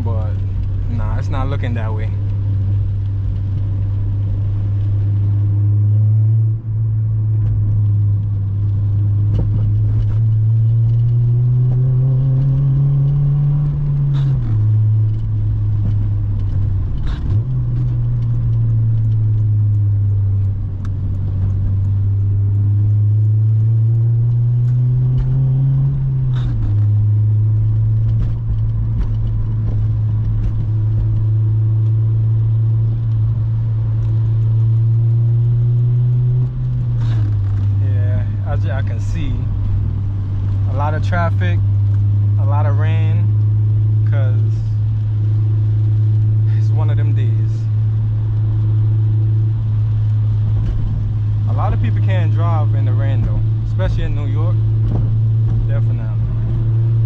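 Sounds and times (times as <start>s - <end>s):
car engine and exhaust drone: 0.0s - 57.0s.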